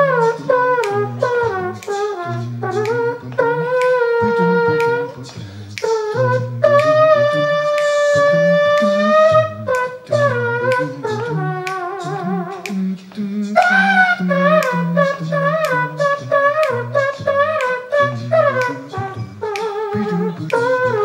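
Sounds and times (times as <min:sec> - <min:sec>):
man imitating muted horn: 0:00.0 - 0:21.0
mouth percussion clicks: 0:00.0 - 0:21.0
sung bass line: 0:00.0 - 0:21.0.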